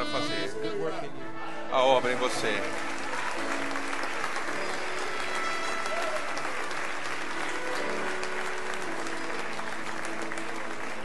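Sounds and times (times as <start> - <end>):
congregation applauding: 1.9 - 11.0.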